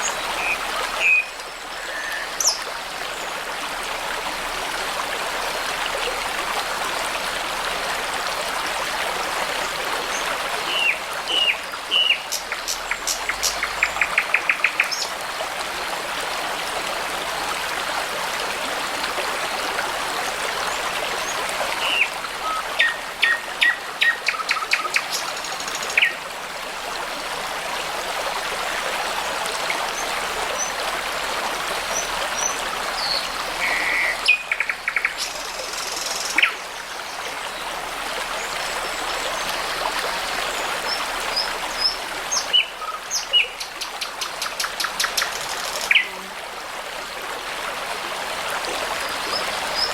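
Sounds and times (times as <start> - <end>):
babbling brook: 0.0 - 49.9.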